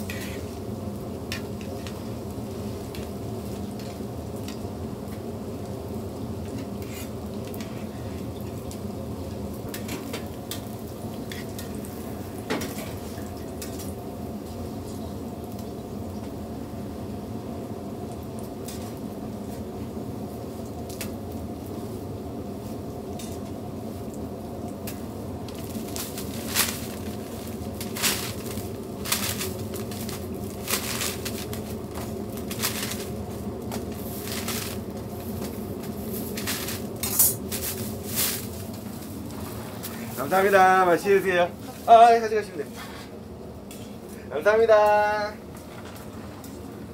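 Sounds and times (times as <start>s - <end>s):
oil sizzling on a griddle: 0.0s - 46.9s.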